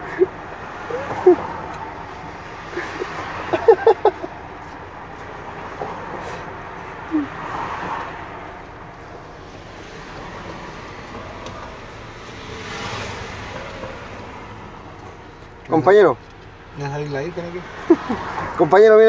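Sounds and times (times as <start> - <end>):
street traffic noise: 0.0 - 19.0.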